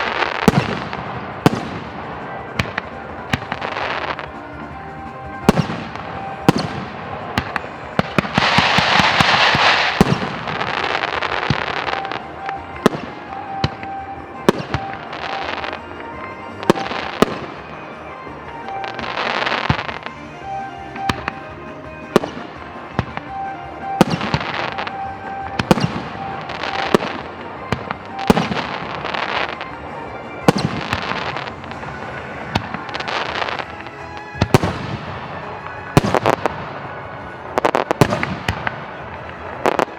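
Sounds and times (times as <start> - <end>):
background music: 0.0 - 39.9
fireworks bangs: 0.0 - 39.9
fireworks crackling hiss: 0.0 - 39.9.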